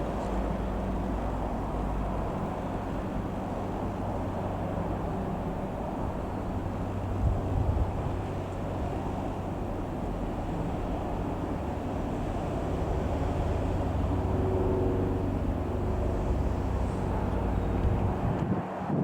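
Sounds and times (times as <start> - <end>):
aircraft piston engine droning: 0.0 - 18.4.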